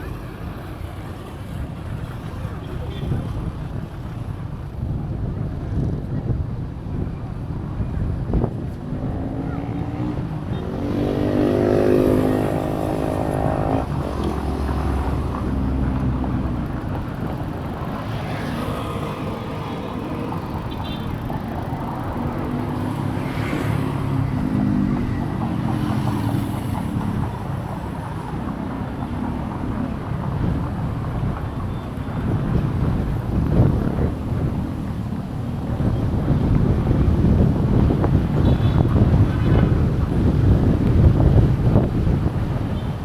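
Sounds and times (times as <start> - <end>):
road traffic passing: 0.0 - 43.0
wind rumbling on microphone: 0.0 - 43.0.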